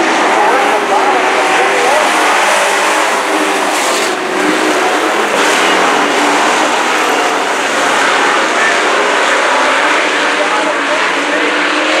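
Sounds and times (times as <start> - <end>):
racing truck engines droning: 0.0 - 12.0.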